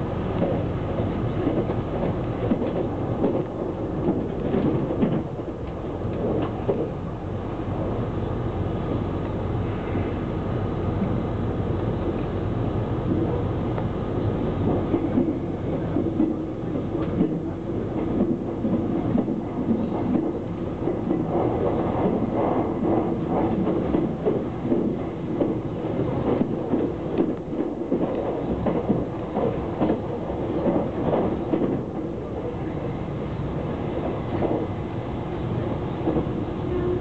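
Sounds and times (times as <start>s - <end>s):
train carriage rattling: 0.0s - 37.0s
train wheels rumbling on rails: 0.0s - 37.0s.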